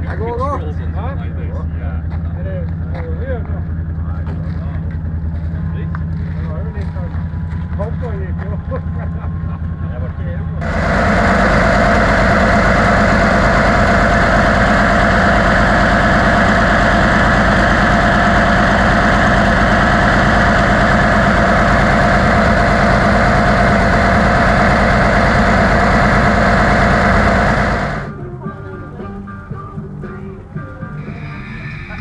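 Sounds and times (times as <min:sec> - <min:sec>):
tractor engine idling: 0:00.0 - 0:29.2, 0:29.8 - 0:32.0.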